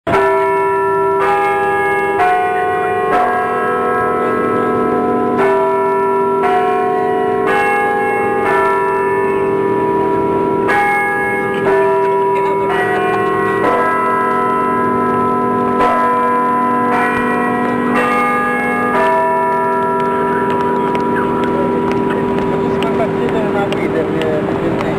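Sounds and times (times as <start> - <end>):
temple bells ringing: 0.1 - 24.9.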